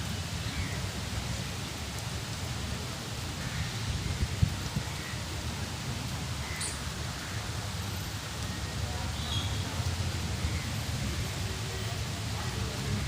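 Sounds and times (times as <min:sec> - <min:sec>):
rain falling on leaves: 0:00.0 - 0:13.0.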